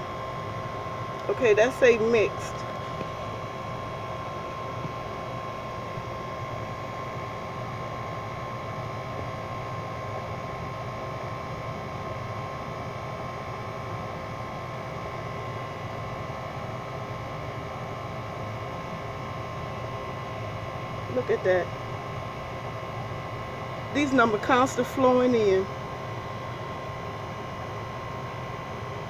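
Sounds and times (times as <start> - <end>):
steady hum and hiss: 0.0 - 29.0.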